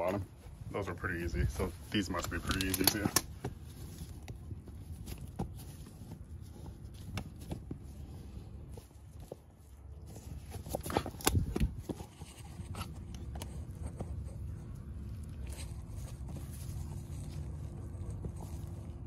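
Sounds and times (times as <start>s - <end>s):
handling and rustling: 0.0s - 19.0s
low steady rumble: 0.0s - 19.0s.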